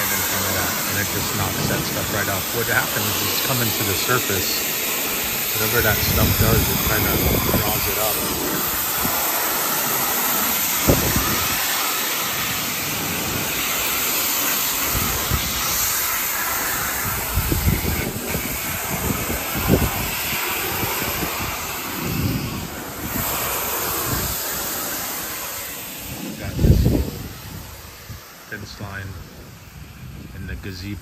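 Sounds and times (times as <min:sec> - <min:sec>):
pressure washer spraying: 0:00.0 - 0:28.6.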